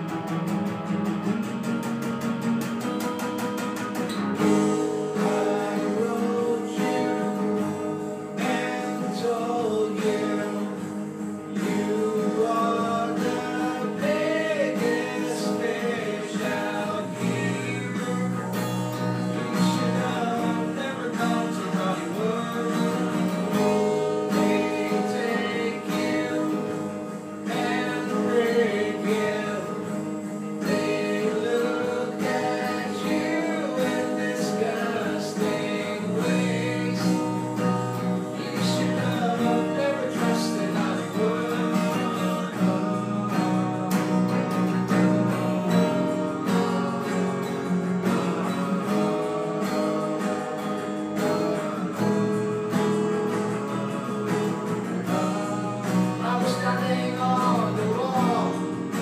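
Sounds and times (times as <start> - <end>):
acoustic guitar strumming: 0.0 - 59.0
man singing: 4.4 - 46.6, 47.9 - 59.0.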